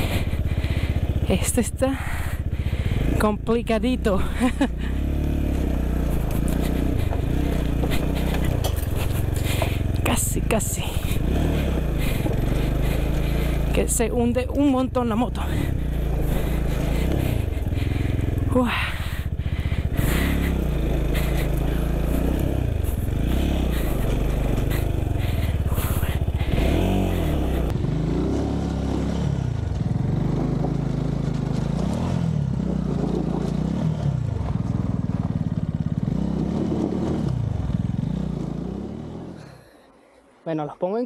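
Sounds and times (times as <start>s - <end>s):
motorcycle engine revving: 0.0s - 40.1s.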